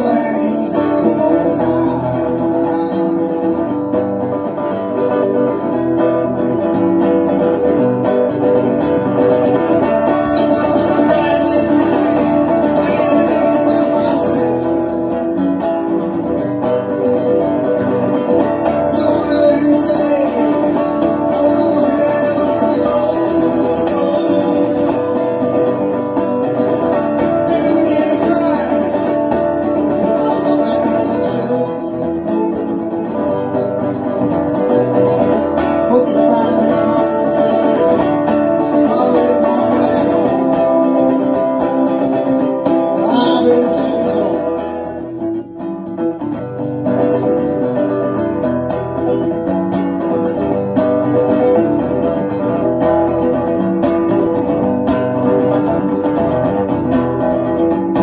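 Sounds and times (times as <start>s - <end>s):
electric guitar notes and chords: 0.0s - 58.0s.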